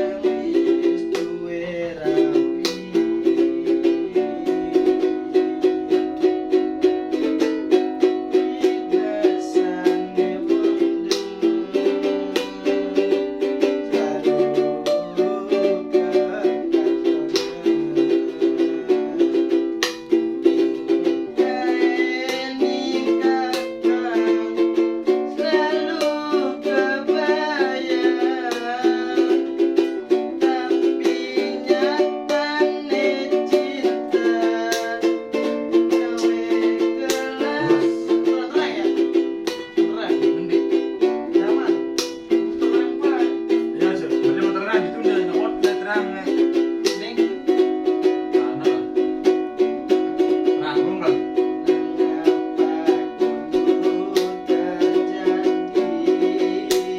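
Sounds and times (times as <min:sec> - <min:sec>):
small plucked string instrument strumming: 0:00.0 - 0:56.9.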